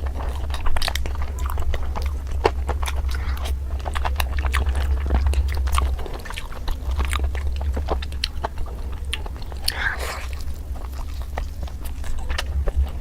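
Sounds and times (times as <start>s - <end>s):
chewing and biting: 0.0s - 13.0s
steady low hum: 0.0s - 13.0s.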